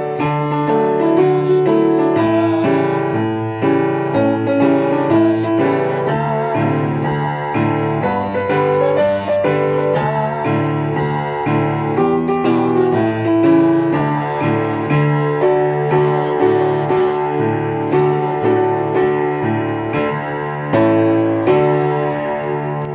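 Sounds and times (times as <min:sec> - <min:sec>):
piano keyboard melody: 0:00.0 - 0:22.9.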